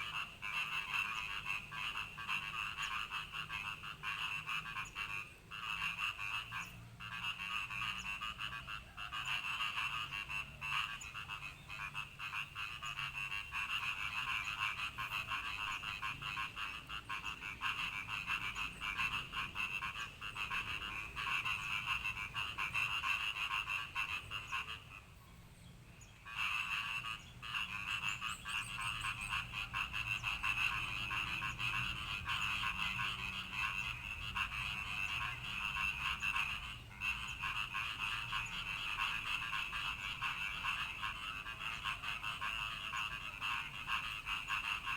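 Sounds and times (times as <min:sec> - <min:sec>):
frogs croaking in chorus: 0:00.0 - 0:25.2, 0:26.0 - 0:44.9.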